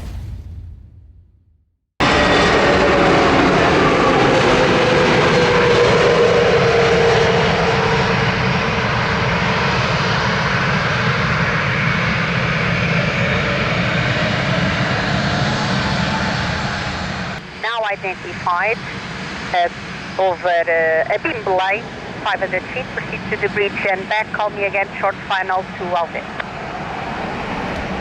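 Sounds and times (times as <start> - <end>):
jet engines whining and rumbling: 2.0 - 28.0.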